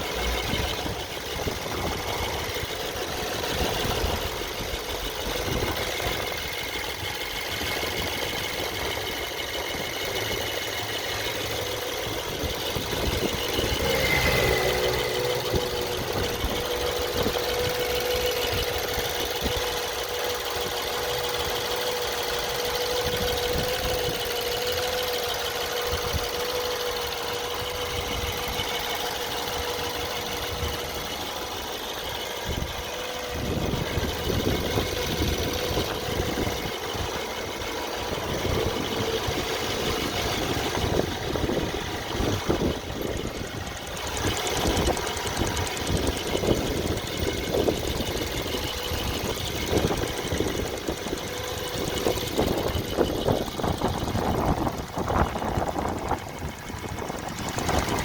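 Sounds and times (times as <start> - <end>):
engine knock: 0.0 - 58.0
petrol engine running: 0.0 - 58.0.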